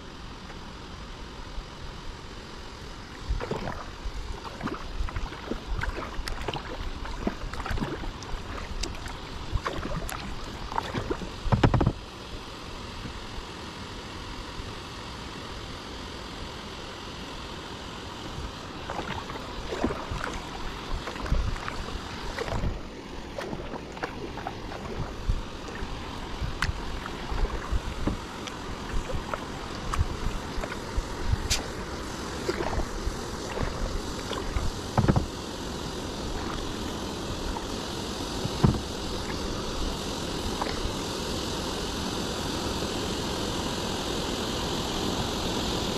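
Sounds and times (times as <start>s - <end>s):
steady rushing noise: 0.0s - 45.9s
water lapping around kayak: 0.0s - 45.9s.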